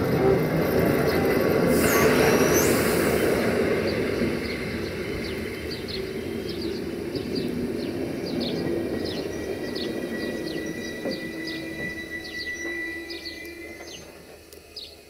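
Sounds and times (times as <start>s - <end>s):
train rolling over rails: 0.0s - 15.0s
birds chirping: 0.8s - 15.0s.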